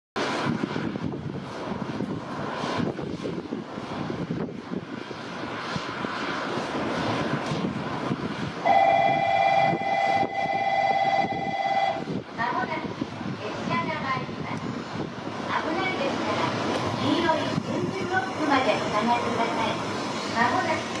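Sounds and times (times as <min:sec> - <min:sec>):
rumbling high-speed train: 0:00.2 - 0:21.0.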